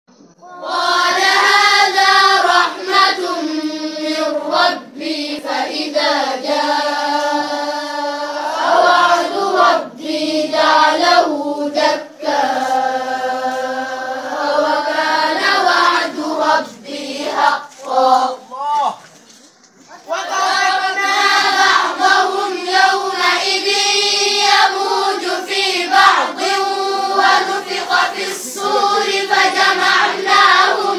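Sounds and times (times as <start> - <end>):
girls chanting together: 0.4 - 18.5, 20.1 - 30.9.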